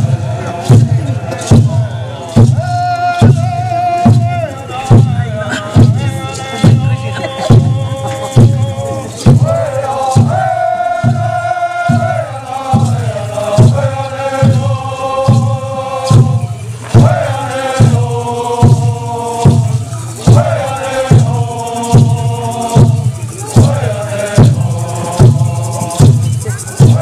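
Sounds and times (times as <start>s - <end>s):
group chanting: 0.0s - 4.0s, 7.1s - 27.0s
steady drum beat: 0.0s - 27.0s.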